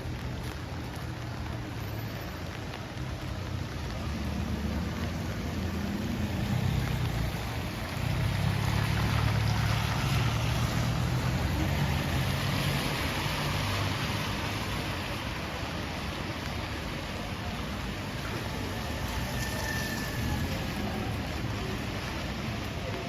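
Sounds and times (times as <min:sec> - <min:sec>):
rain hissing on street: 0:00.0 - 0:23.0.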